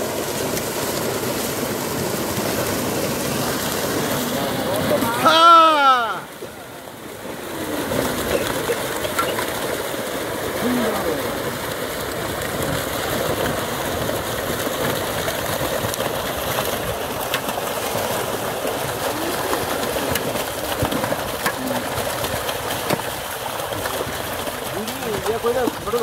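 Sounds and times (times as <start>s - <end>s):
water splashing: 0.0s - 26.0s.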